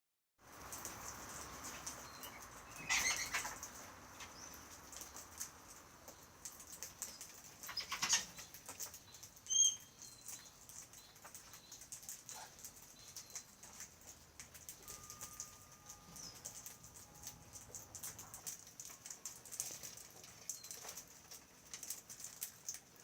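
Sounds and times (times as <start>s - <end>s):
small clicks of birds moving: 0.4s - 23.0s.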